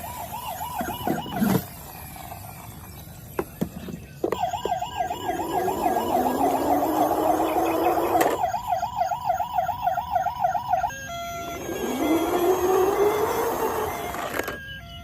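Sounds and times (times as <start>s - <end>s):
slow rising siren wail: 0.0s - 1.6s, 4.4s - 15.0s
fast warbling siren: 0.0s - 2.8s, 4.3s - 15.0s.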